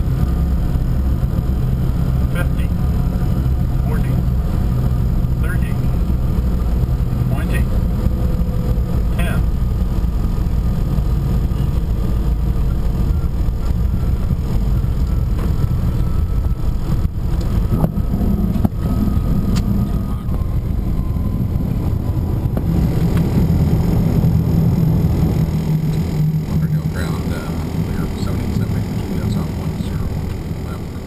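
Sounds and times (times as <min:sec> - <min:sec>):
jet engines rumbling: 0:00.0 - 0:31.0
low hum: 0:00.0 - 0:31.0.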